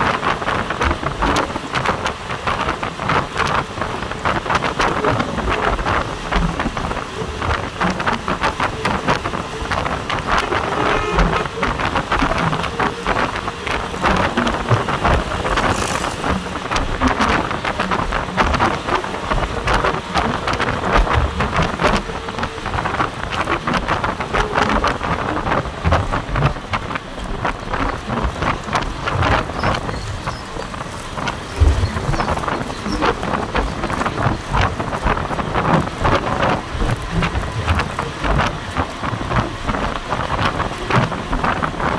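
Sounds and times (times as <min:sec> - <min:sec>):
tyre noise on concrete road: 0:00.0 - 0:41.9
wind rushing through window: 0:00.0 - 0:41.9.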